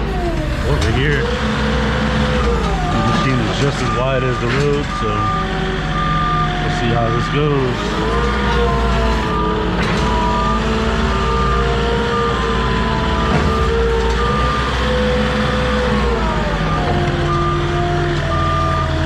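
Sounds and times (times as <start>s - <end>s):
forklift engine running: 0.0s - 19.0s
backup alarm beeping: 0.5s - 19.0s.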